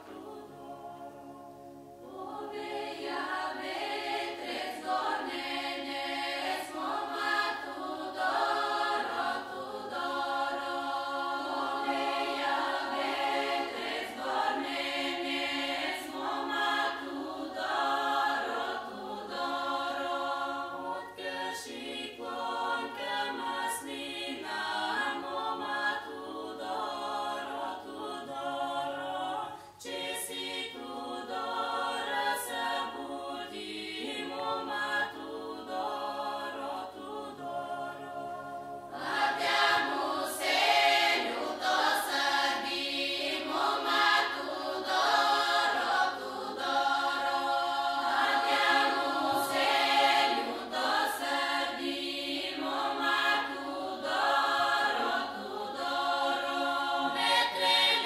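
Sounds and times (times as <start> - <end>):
choir singing a cappella: 0.0 - 58.0.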